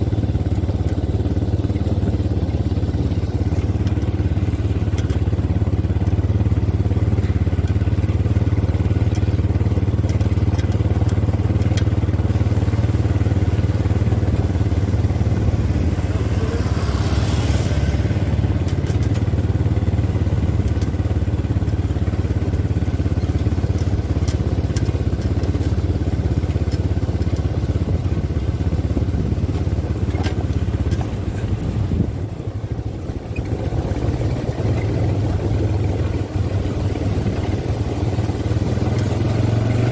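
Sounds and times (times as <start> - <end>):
quad bike engines humming: 0.0 - 39.9.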